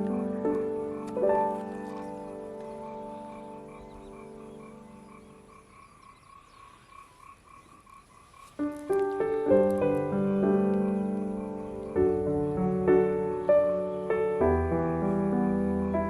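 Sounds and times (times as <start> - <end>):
piano music: 0.0 - 5.5, 8.6 - 16.0
frogs croaking: 0.0 - 16.0.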